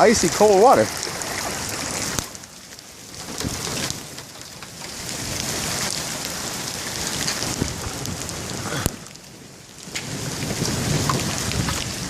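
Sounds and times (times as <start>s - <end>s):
rain and hail falling: 0.0s - 12.0s.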